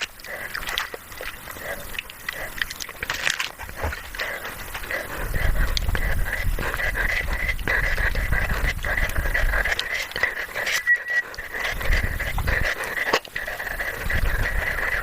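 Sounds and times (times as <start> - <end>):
heavy panting and breathing: 0.0 - 15.0.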